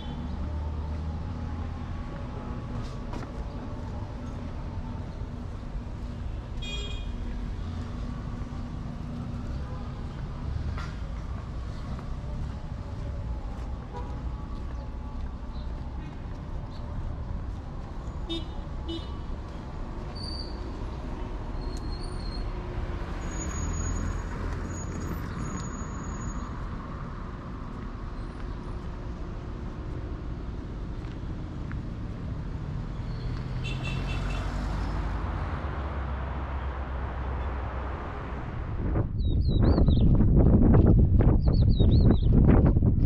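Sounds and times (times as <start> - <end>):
street traffic rumble: 0.0 - 43.0.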